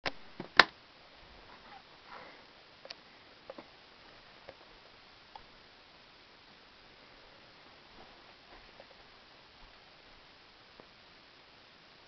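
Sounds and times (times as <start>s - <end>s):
faint hiss: 0.1s - 12.0s.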